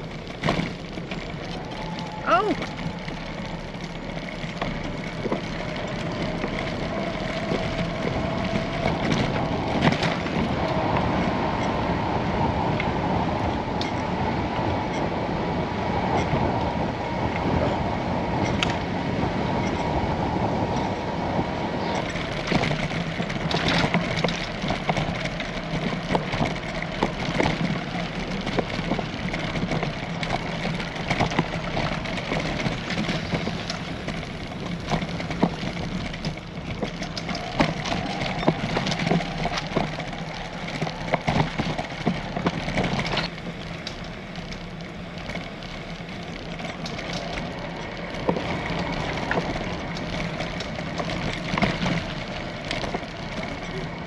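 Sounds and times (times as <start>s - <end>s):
small rattles and clicks: 0.0s - 15.2s, 16.0s - 54.0s
bicycle tyres rolling on path: 0.0s - 54.0s.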